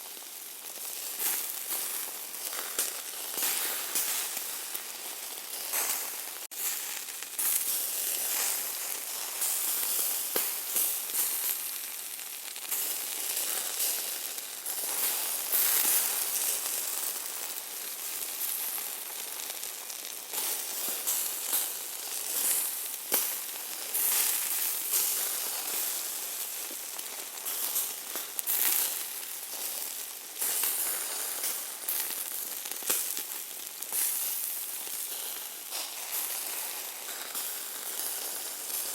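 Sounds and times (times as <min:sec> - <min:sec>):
meat sizzling: 0:00.0 - 0:38.9.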